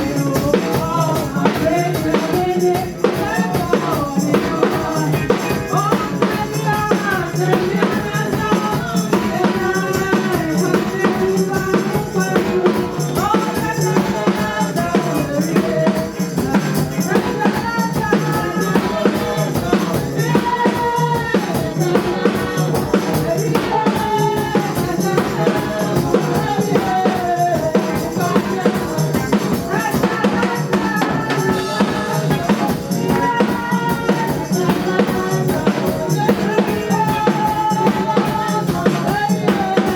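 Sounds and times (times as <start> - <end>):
drum kit beat: 0.0 - 39.9
people singing: 0.0 - 39.9
tambourine: 0.0 - 39.9.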